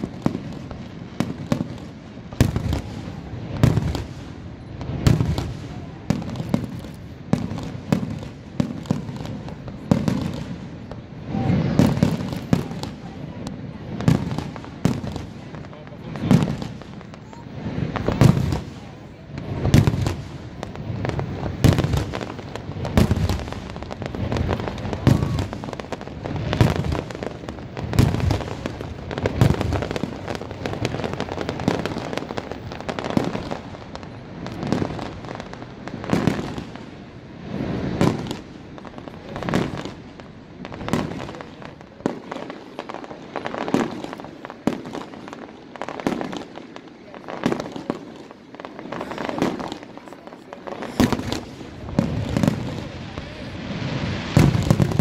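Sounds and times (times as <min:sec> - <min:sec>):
fireworks booming: 0:00.0 - 0:55.0
fireworks crackling pops: 0:00.0 - 0:55.0.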